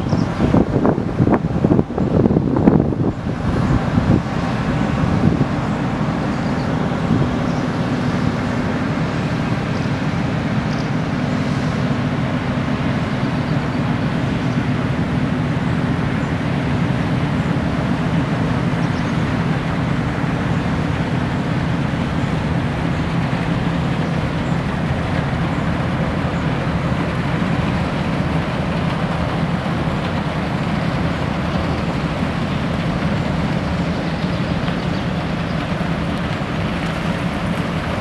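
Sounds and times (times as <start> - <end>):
ship engines droning: 0.0 - 38.0.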